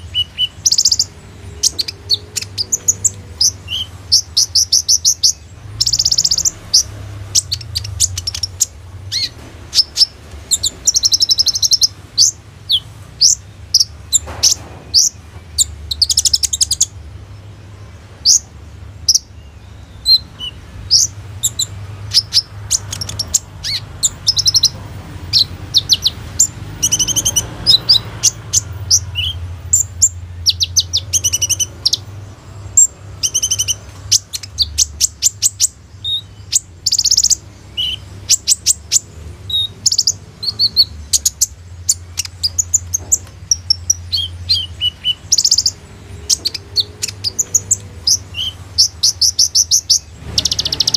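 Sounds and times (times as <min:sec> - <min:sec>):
sunbird chirping and trilling: 0:00.0 - 0:50.9.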